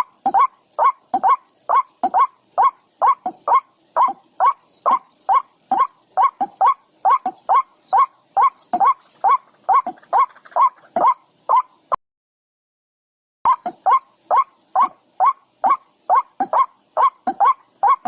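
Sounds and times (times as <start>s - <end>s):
bird calling: 0.0s - 11.9s, 13.5s - 18.0s.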